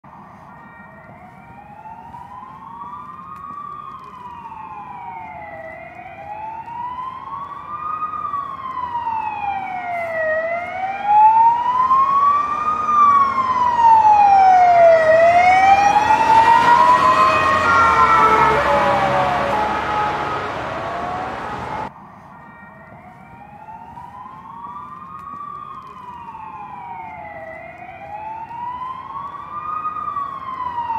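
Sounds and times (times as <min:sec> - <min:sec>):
vehicle road noise: 0:00.0 - 0:30.9
ambulance siren wailing: 0:00.1 - 0:30.9.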